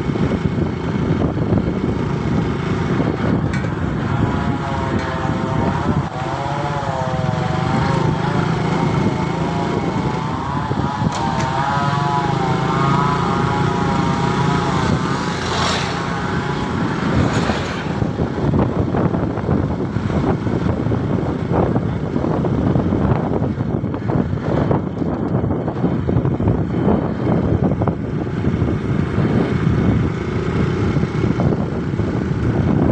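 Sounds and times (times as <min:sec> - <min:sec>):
motorcycle engine running: 0:00.0 - 0:32.9
wind noise on microphone: 0:00.0 - 0:32.9.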